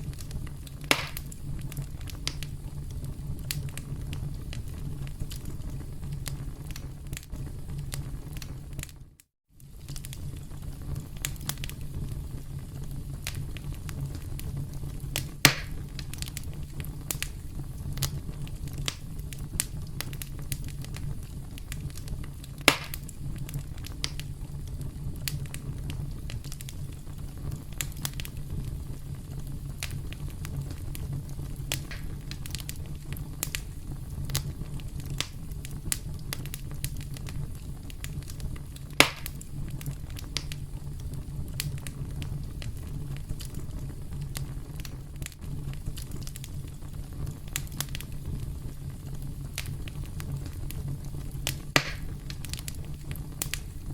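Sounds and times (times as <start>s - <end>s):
campfire crackling and popping: 0.0s - 53.9s
low rumble of flames: 0.0s - 53.9s.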